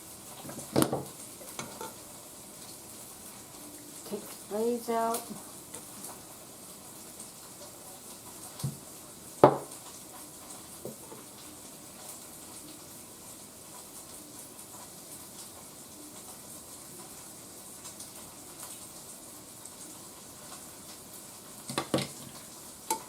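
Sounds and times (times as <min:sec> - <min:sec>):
low kitchen background: 0:00.0 - 0:23.0.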